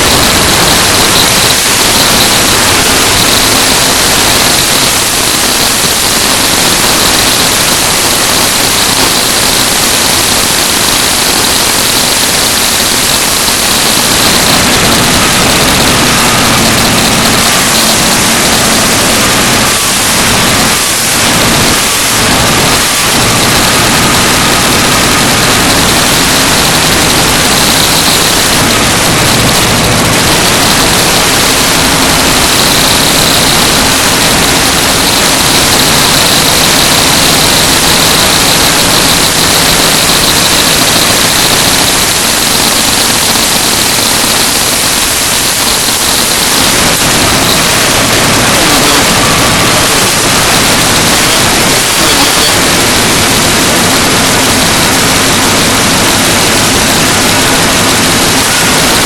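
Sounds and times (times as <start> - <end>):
static hiss: 0.0 - 59.0.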